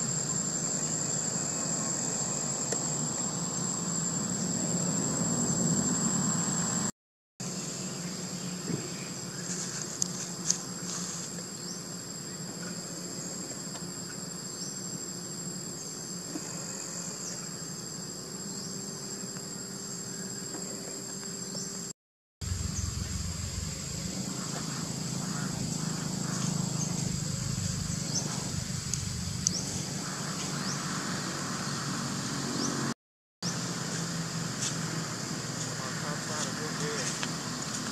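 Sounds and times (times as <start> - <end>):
insect chorus drone: 0.0 - 37.9.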